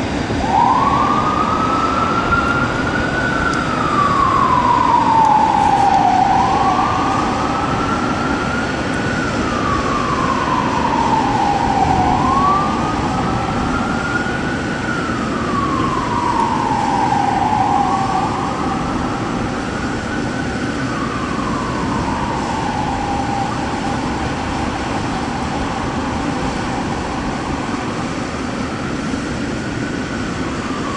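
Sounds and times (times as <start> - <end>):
fire engine siren wailing: 0.0 - 30.9
traffic noise: 0.0 - 30.9.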